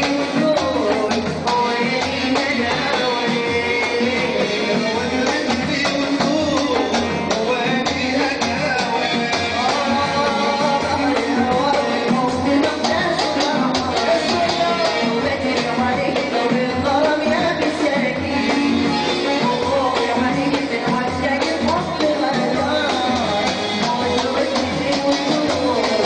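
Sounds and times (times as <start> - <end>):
keyboard: 0.0 - 26.0
percussion playing a steady rhythm: 0.0 - 26.0.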